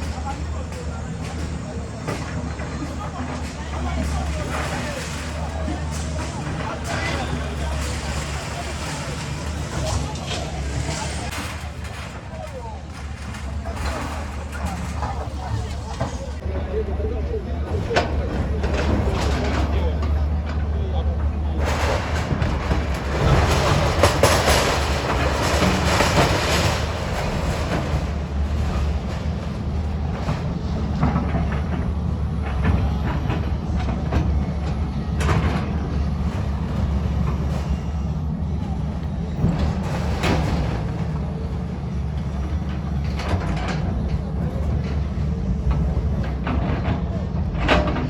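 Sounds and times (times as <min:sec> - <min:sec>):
heavy engine rumbling: 0:00.0 - 0:48.0
knocks and rattles: 0:00.0 - 0:48.0.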